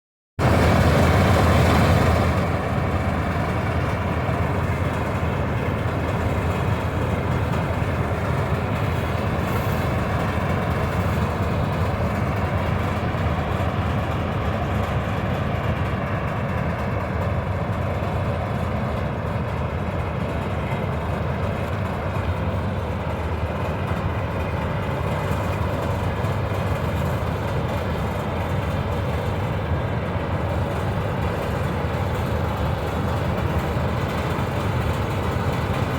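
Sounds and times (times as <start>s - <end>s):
combine harvester running: 0.4s - 35.9s.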